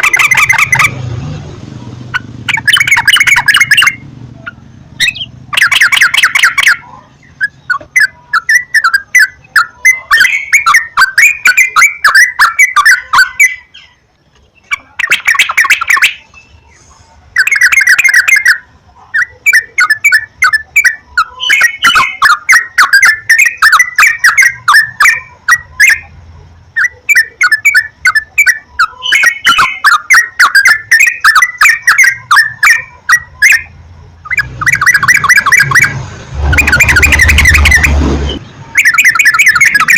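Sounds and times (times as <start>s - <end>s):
bird bubbling song: 0.0s - 1.0s, 2.1s - 26.1s, 26.8s - 39.9s.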